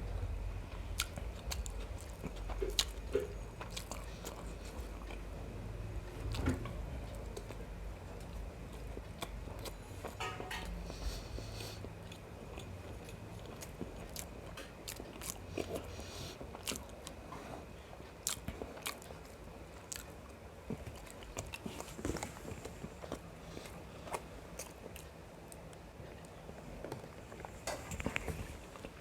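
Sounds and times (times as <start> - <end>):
person chewing food: 0.1 - 29.0.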